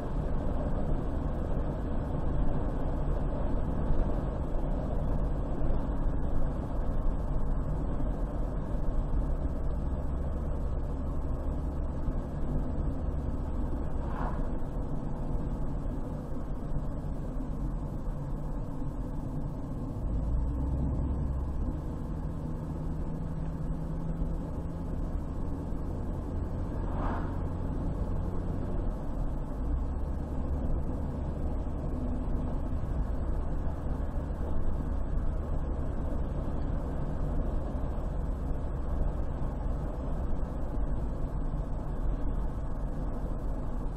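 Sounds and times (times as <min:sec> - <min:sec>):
car engine rumble: 0:00.0 - 0:43.9
tyre noise on road: 0:00.0 - 0:43.9.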